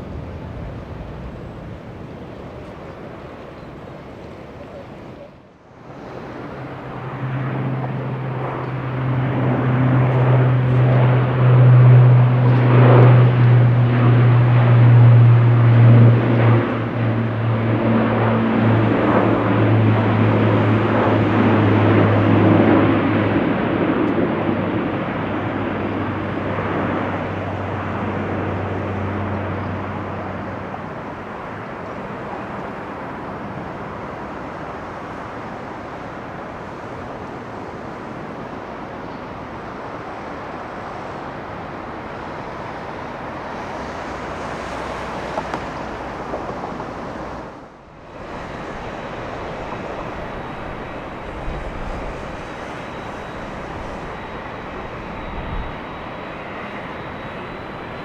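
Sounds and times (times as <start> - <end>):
jet engines humming: 0.0 - 58.0
outdoor noise: 0.0 - 58.0.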